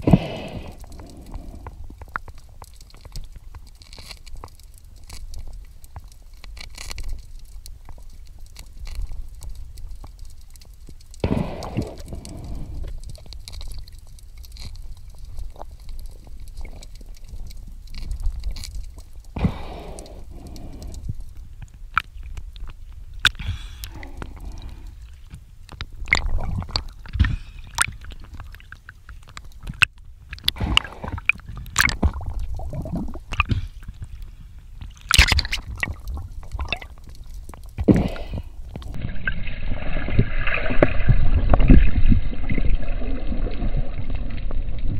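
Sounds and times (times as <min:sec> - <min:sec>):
water sloshing and gurgling: 0:00.0 - 0:44.9.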